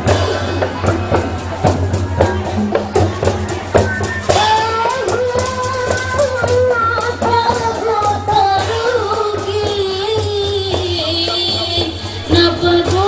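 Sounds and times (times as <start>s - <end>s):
light percussion: 0.0s - 13.0s.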